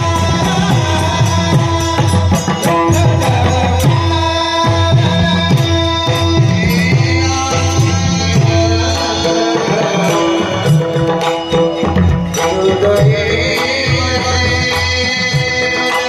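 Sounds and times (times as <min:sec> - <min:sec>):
man singing: 0:00.0 - 0:16.0.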